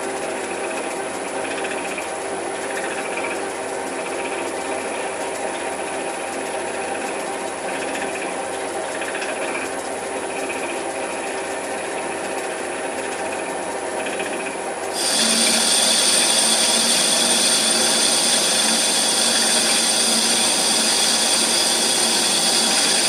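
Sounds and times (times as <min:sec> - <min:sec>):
lathe whirring: 0:00.1 - 0:23.0.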